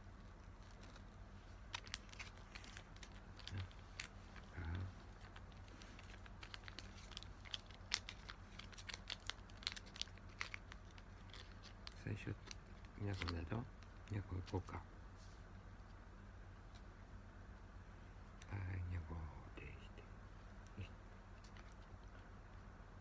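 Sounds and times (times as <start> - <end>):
crinkling with sharp crackles: 0.0 - 17.0, 20.3 - 22.7.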